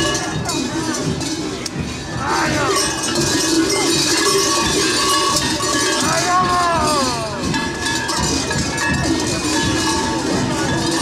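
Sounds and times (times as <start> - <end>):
large cowbells clanging: 0.0 - 11.0.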